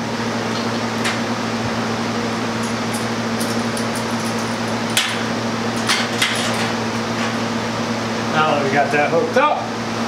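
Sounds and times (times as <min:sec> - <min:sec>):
chiller humming with fan noise: 0:00.0 - 0:10.0.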